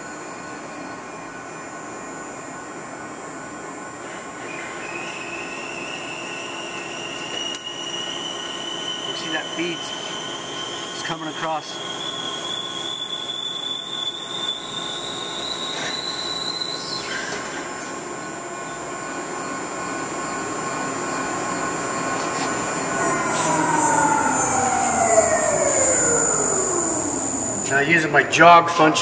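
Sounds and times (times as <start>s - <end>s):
lathe cutting metal whine: 0.0s - 29.0s.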